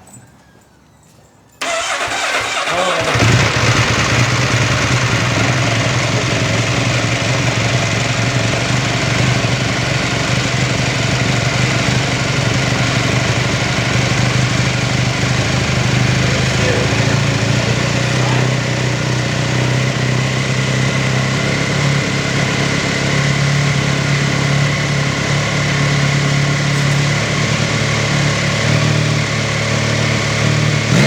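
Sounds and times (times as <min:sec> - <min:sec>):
motorcycle engine starting and idling: 0:01.6 - 0:31.0.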